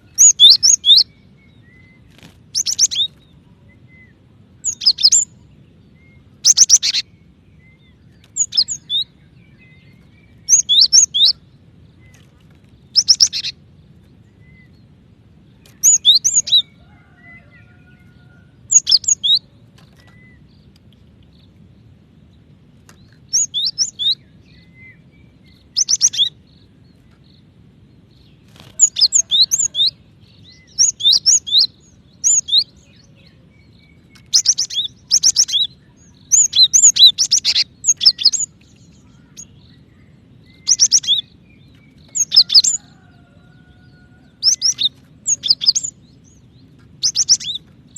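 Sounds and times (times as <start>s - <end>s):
bird chirping: 0.0s - 21.6s, 22.3s - 47.9s.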